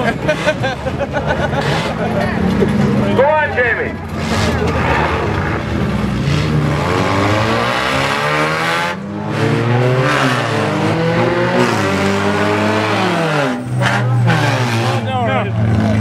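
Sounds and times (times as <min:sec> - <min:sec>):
racing car engines revving: 0:00.0 - 0:16.0.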